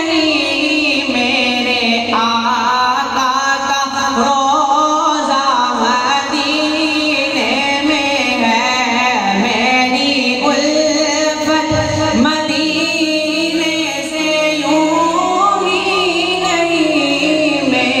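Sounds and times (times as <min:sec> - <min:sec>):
boy singing through a microphone: 0:00.0 - 0:18.0.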